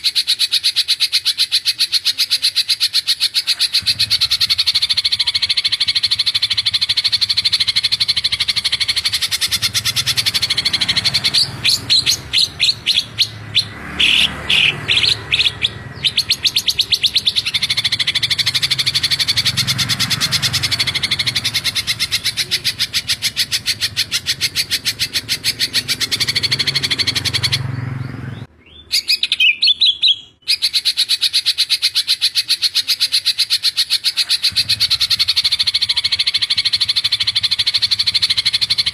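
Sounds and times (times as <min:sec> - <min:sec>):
bird singing high trill: 0:00.0 - 0:38.9.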